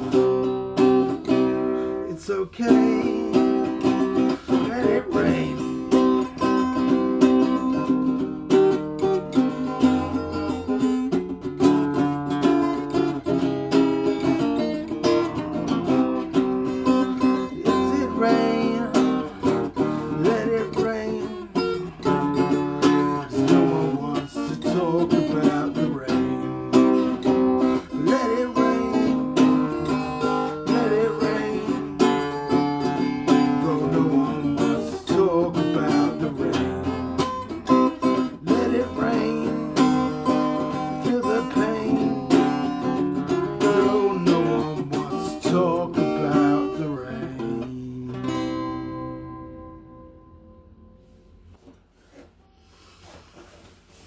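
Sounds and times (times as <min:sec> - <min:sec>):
acoustic guitar strumming: 0:00.0 - 0:53.2.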